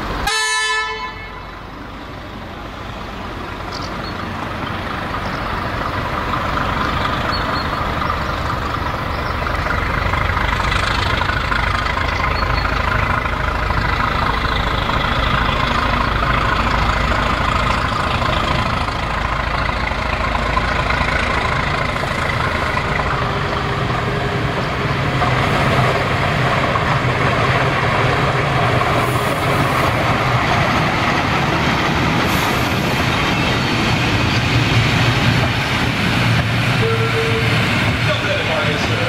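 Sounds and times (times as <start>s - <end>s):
diesel locomotive passing: 0.0s - 39.0s
coaches rolling on rails: 1.0s - 39.0s.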